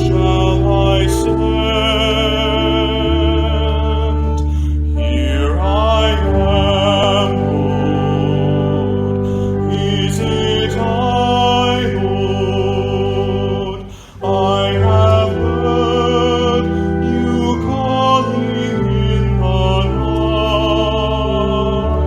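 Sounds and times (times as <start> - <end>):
slow worship music: 0.0 - 22.0.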